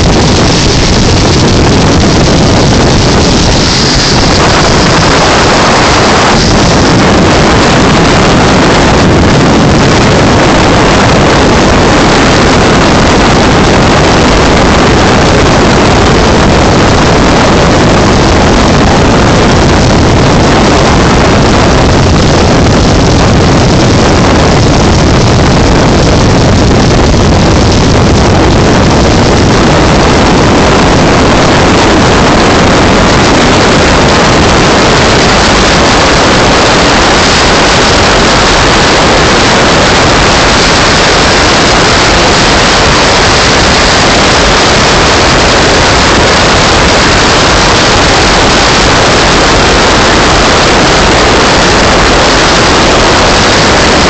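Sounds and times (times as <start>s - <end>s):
motorboat engine and water rush: 0.0s - 54.0s
wind buffeting microphone: 0.0s - 54.0s.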